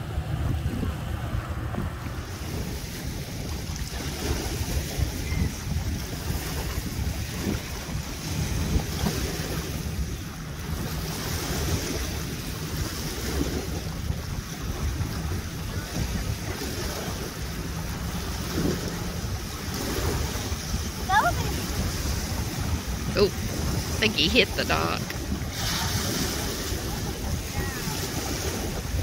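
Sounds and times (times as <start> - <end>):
motorboat engine idling: 0.0 - 29.0
small waves lapping: 0.0 - 29.0
wind buffeting microphone: 0.0 - 29.0.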